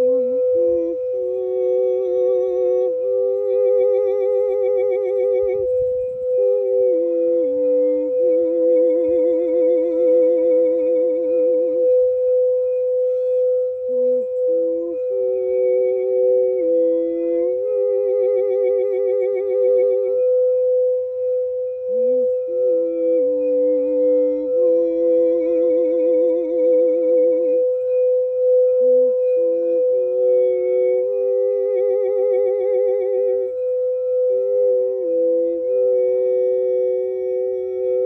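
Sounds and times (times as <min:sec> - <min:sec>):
singing bowl ringing: 0:00.0 - 0:38.0.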